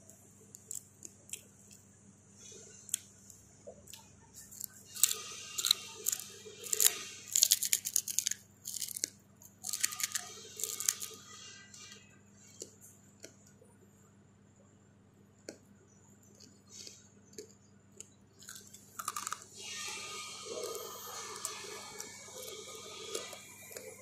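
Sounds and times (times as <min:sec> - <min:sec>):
faint steady hum: 0:00.0 - 0:24.0
chewing crispy pig skin: 0:00.1 - 0:13.4, 0:16.3 - 0:24.0.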